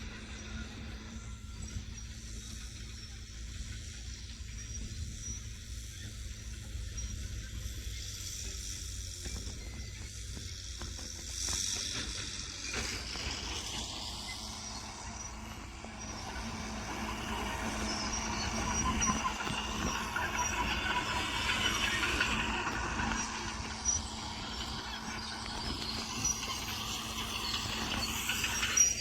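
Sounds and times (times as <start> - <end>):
bulldozer diesel engine humming: 0.0 - 29.0
steel tracks clanking and squeaking: 0.0 - 29.0.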